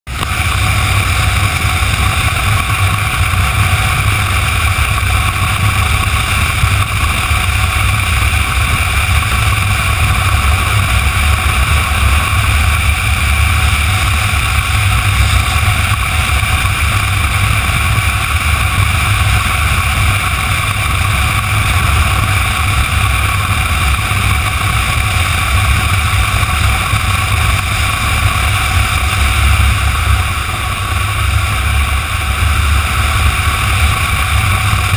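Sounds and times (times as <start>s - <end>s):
motorcycle engine drone: 0.1s - 34.9s
wind rush: 0.1s - 34.9s.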